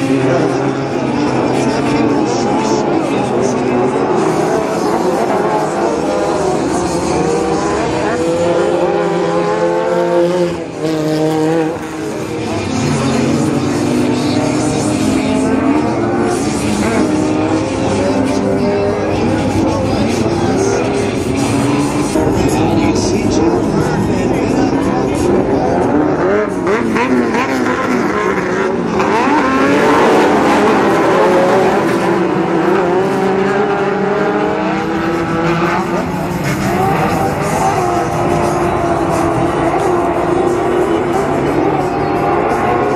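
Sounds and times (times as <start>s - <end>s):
race truck engines: 0.0s - 42.9s.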